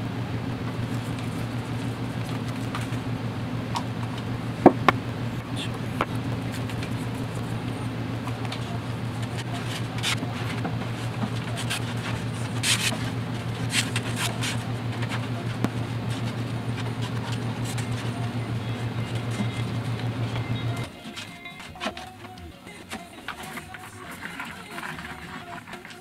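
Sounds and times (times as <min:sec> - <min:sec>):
low mechanical hum: 0:00.0 - 0:26.0
plastic spreader scraping resin on wood: 0:00.7 - 0:03.0, 0:03.8 - 0:26.0.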